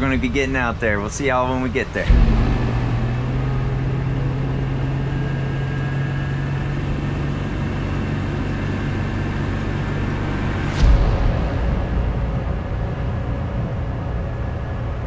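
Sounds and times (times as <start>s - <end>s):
boat wake rushing: 0.0s - 15.0s
outboard motor humming: 0.0s - 15.0s.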